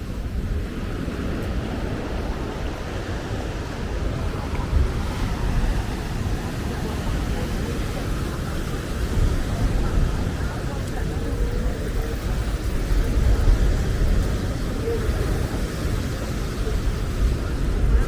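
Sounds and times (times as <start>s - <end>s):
sea waves washing onto beach: 0.0s - 18.0s
wind buffeting microphone: 0.0s - 18.0s.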